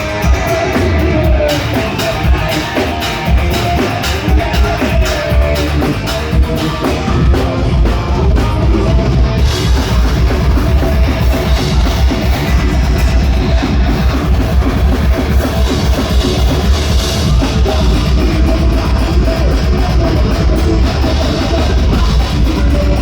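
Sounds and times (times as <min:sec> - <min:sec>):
drum kit: 0:00.0 - 0:23.0
electric guitar: 0:00.0 - 0:23.0
rapid bass drum pulse: 0:03.2 - 0:23.0.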